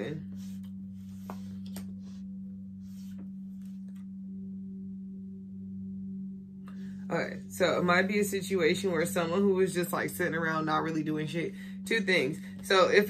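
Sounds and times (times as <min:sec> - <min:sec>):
higher steady tone: 0:00.0 - 0:13.0
steady low humming tone: 0:00.0 - 0:13.0.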